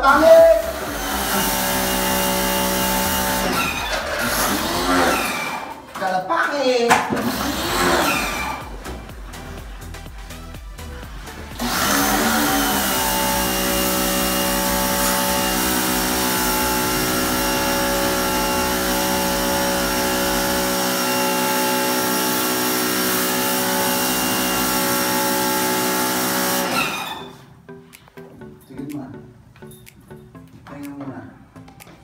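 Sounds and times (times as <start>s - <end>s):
pressure washer motor whining: 0.0s - 6.0s, 7.1s - 27.6s.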